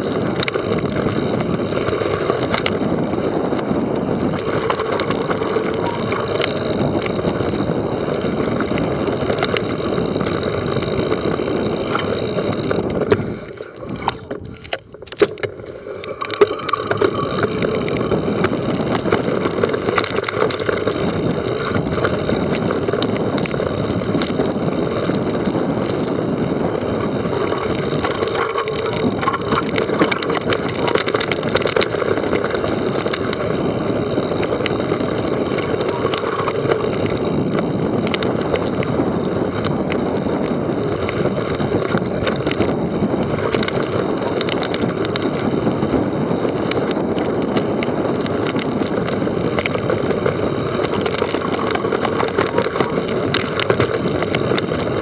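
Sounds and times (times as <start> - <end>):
bike rattles and clicks: 0.0 - 55.0
wind and tyre rush: 0.0 - 55.0.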